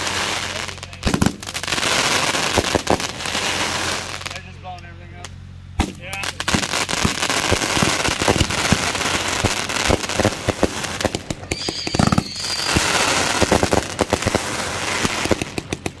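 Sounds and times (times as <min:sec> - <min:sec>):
firework cake crackling and popping: 0:00.0 - 0:16.0.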